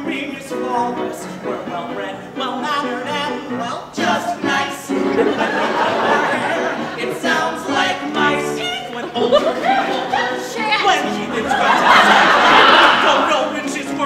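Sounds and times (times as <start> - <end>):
men singing: 0.0 - 14.0.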